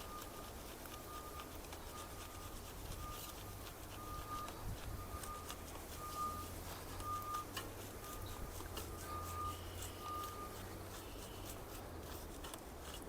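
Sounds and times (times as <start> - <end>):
reversing alarm beeping: 0.0 - 11.6
low steady hum: 0.0 - 13.0.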